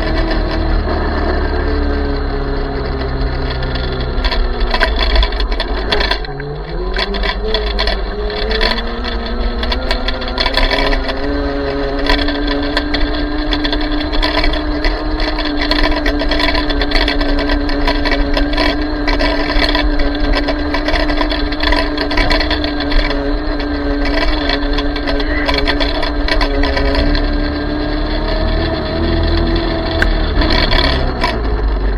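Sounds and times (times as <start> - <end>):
electric minibike motor whining: 0.0 - 31.9
low rumble: 0.0 - 31.9
rattling clicks: 0.0 - 31.9.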